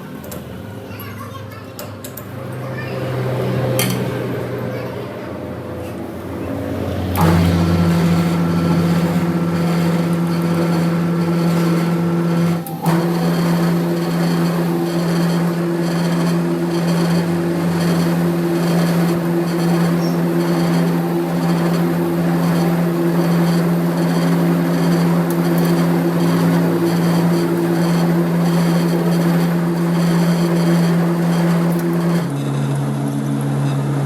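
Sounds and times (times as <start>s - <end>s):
machine motor humming: 5.6s - 33.6s.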